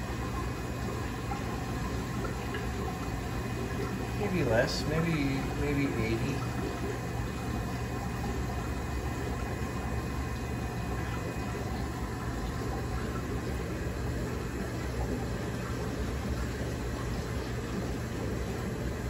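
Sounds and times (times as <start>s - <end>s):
aquarium equipment humming: 0.0s - 19.0s.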